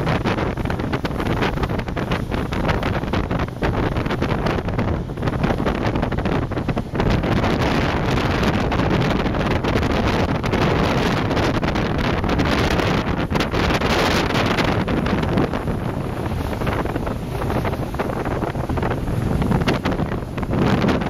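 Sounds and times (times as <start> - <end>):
boat running noise: 0.0 - 21.0
rushing water: 0.0 - 21.0
wind buffeting microphone: 0.0 - 21.0.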